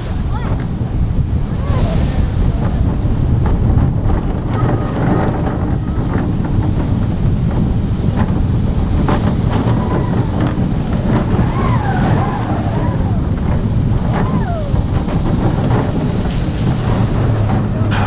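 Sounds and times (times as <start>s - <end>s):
roller coaster train rumbling: 0.0s - 18.0s
wind buffeting microphone: 0.0s - 18.0s.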